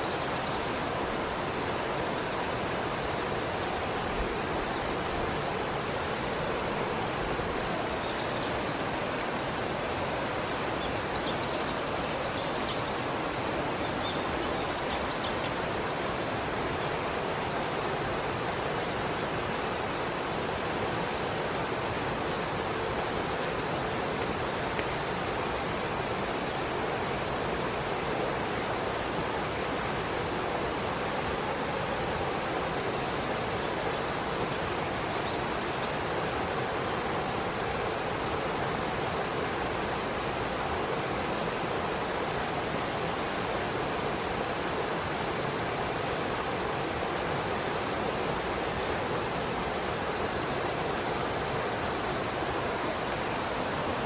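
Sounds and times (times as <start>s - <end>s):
flowing water hiss: 0.0s - 54.0s
insects buzzing: 0.0s - 54.0s.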